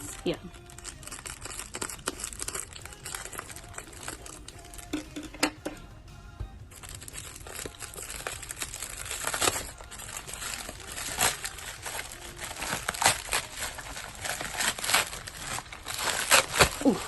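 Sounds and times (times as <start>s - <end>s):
packaging crinkling and tearing: 0.0s - 5.0s, 6.7s - 17.0s.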